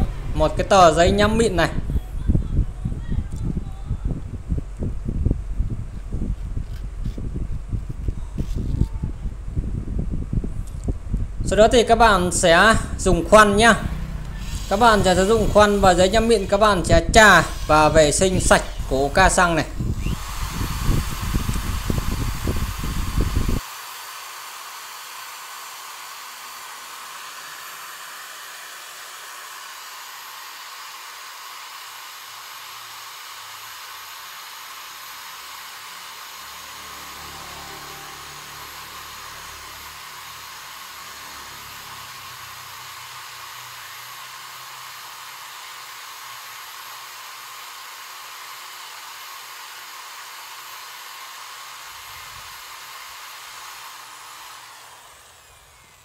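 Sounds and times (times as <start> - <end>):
electric drill running: 0.0 - 56.0.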